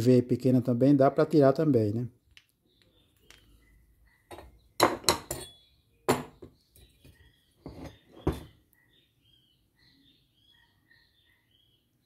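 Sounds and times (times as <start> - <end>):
faint bird chirps: 2.1 - 12.0.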